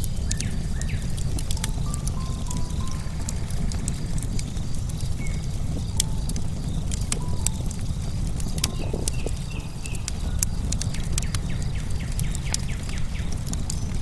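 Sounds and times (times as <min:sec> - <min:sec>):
bird chirps: 0:00.0 - 0:13.9
bonfire crackling and popping: 0:00.0 - 0:14.0
low rumble: 0:00.1 - 0:11.8.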